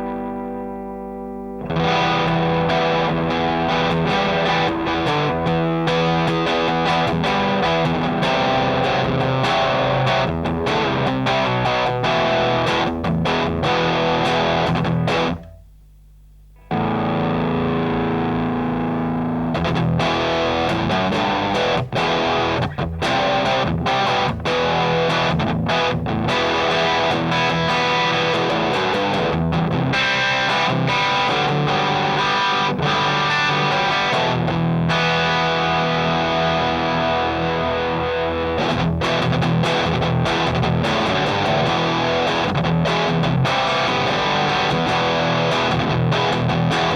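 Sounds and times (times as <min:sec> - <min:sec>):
distorted electric guitar riffs: 0:00.0 - 0:46.9.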